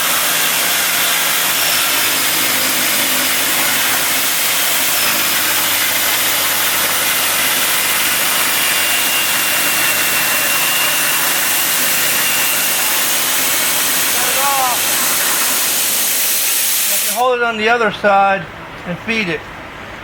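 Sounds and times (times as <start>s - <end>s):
table saw cutting plastic: 0.0s - 17.2s.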